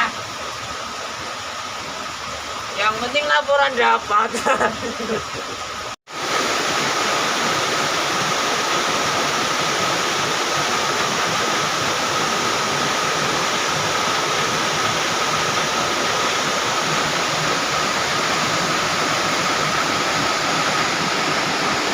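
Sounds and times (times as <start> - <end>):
river water roaring: 0.0 - 21.9.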